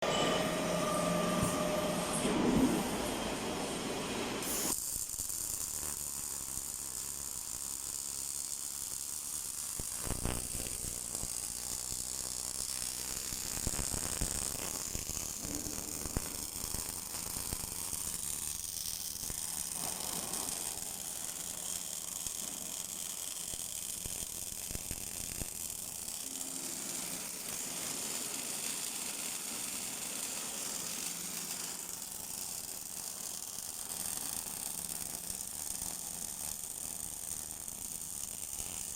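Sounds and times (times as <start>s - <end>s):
welding arc crackling and hissing: 0.0s - 38.9s.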